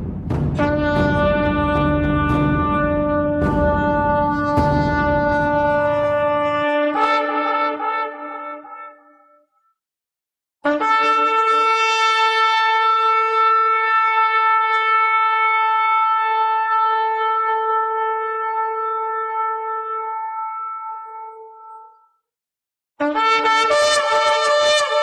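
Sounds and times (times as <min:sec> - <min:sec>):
shofar blast: 0:00.0 - 0:09.3, 0:10.6 - 0:21.6, 0:23.0 - 0:25.0.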